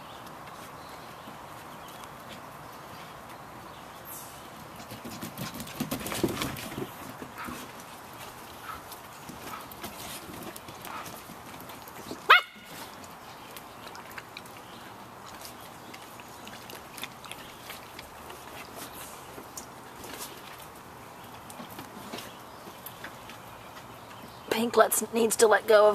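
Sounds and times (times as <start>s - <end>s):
puppies scuffling and clicking: 0.1s - 25.9s.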